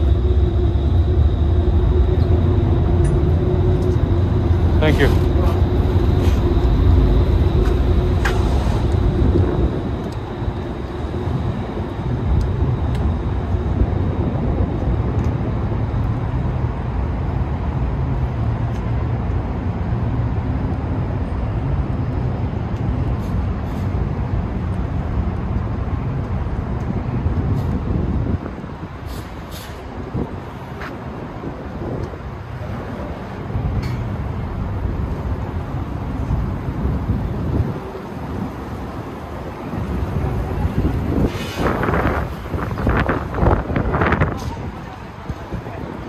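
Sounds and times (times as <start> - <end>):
low engine rumble: 0.0 - 46.0.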